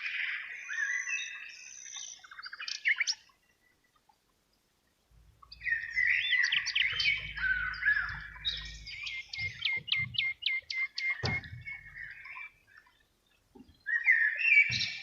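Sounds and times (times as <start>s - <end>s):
birds chirping and trilling: 0.0s - 4.0s, 5.1s - 15.0s.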